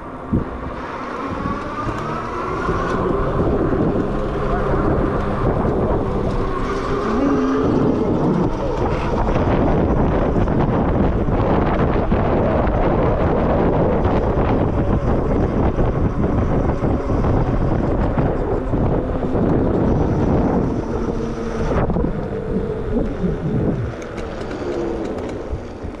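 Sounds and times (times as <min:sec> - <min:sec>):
electric motor whine: 0:00.0 - 0:26.0
wind buffeting microphone: 0:00.0 - 0:26.0.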